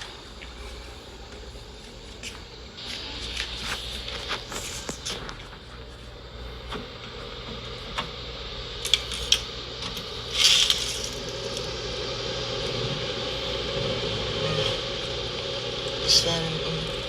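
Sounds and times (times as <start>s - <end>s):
air cooler fan whooshing: 0.0s - 17.0s.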